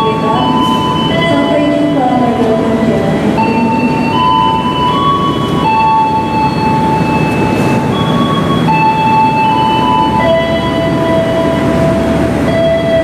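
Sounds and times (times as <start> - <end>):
train carriages rumbling: 0.0 - 13.0.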